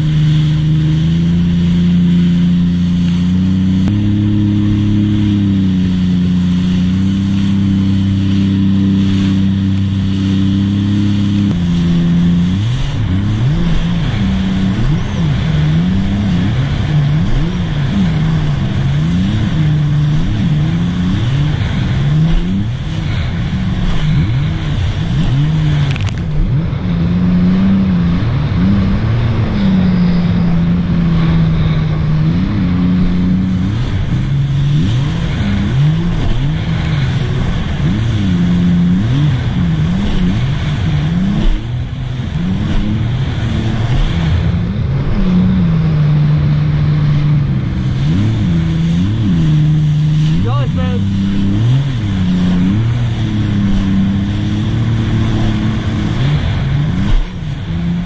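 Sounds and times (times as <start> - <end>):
steady rush of noise: 0.0 - 58.0
watercraft engine revving: 0.0 - 58.0.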